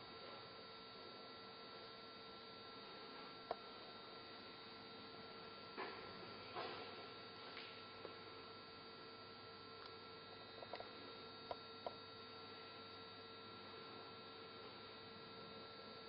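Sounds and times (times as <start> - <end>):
faint hum with hiss: 0.0 - 16.0.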